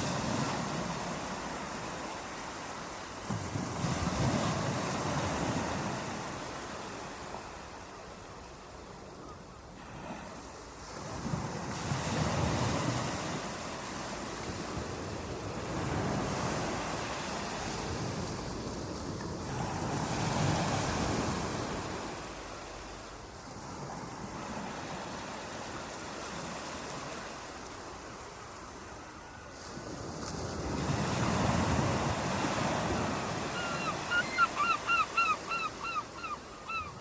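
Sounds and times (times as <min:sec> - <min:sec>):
ocean waves breaking: 0:00.0 - 0:07.9, 0:09.8 - 0:37.0.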